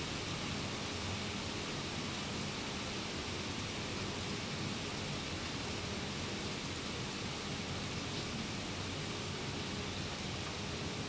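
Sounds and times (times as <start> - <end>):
steady rainfall: 0.0 - 11.0.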